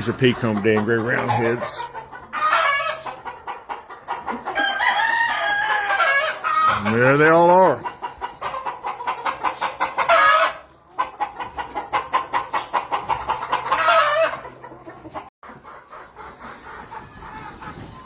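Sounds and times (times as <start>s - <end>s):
chicken squawk: 0.0s - 18.0s
chickens clucking: 0.0s - 18.0s.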